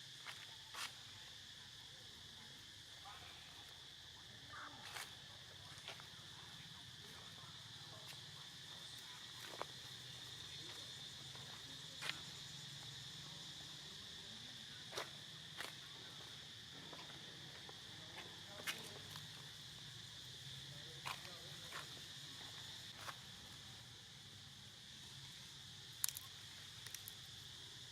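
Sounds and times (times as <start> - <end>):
insects droning: 0.0 - 27.9.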